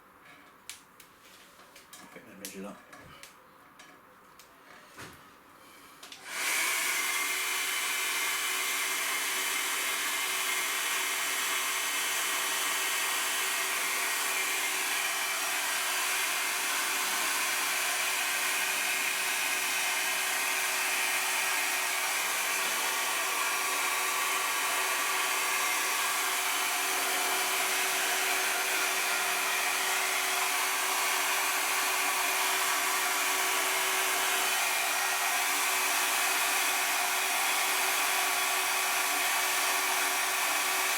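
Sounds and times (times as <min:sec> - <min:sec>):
hot-air blower running: 0:06.0 - 0:40.9.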